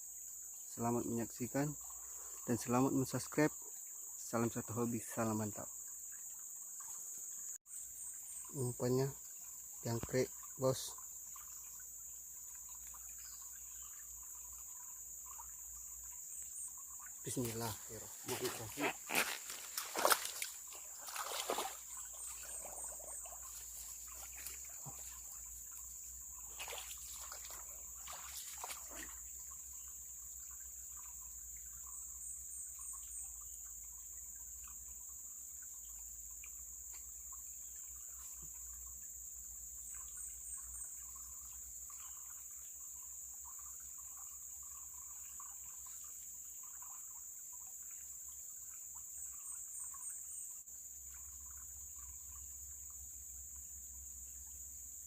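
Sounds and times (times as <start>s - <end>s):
insects droning: 0.0s - 55.0s
water trickling in a stream: 0.0s - 55.0s.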